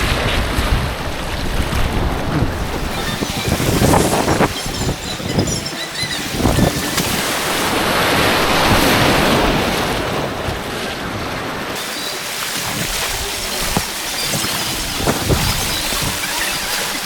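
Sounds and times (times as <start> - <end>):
white water rushing: 0.0 - 17.0.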